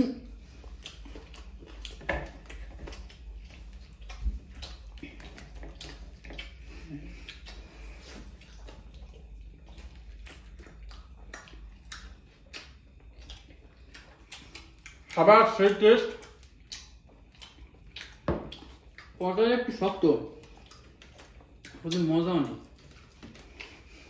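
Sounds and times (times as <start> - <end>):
steady low hum: 0.0 - 24.0
wet chewing and mouth smacks: 0.3 - 24.0.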